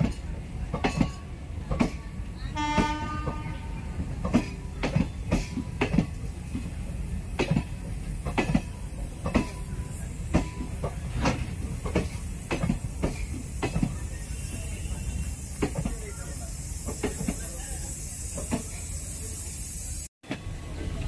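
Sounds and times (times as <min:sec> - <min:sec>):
train wheels clacking: 0:00.0 - 0:19.4
train rumble: 0:00.0 - 0:21.0.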